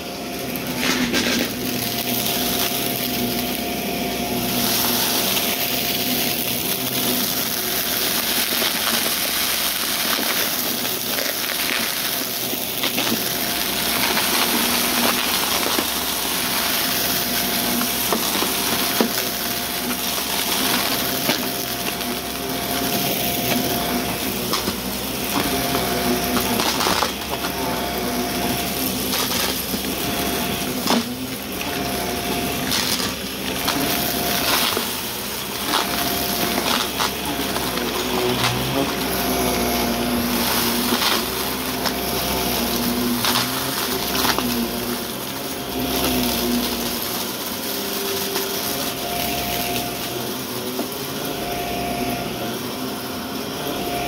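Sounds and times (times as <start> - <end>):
brushroll crunching debris: 0.0 - 54.0
upright vacuum running: 0.0 - 54.0.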